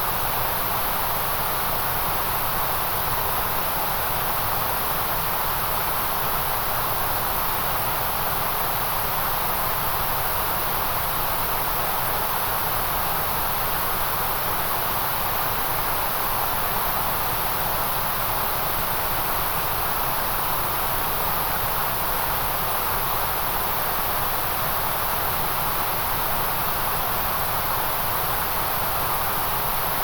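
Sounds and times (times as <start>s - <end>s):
white noise hiss: 0.0s - 30.0s.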